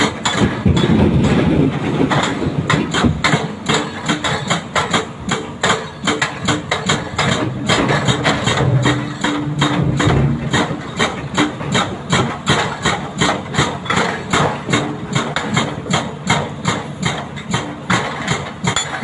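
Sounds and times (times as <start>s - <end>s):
excavator engines running: 0.0s - 19.0s
hydraulic rock breaker hammering: 0.0s - 19.0s.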